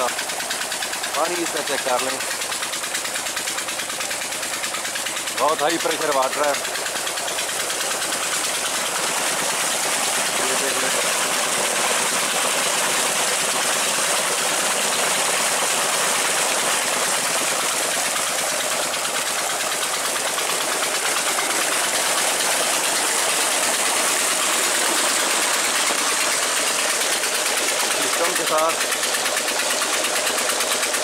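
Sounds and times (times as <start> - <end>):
diesel engine running: 0.0 - 31.0
water jet pouring into tank: 0.0 - 31.0.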